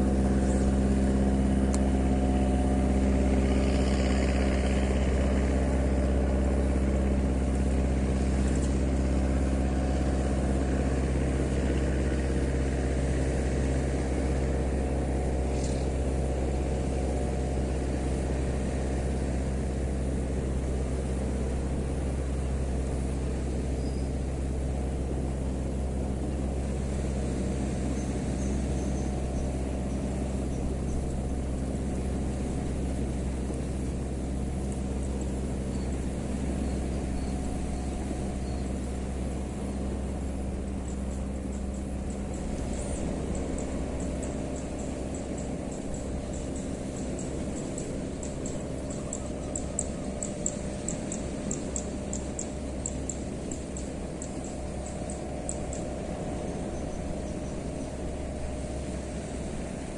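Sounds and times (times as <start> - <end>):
engine humming: 0.0 - 59.9.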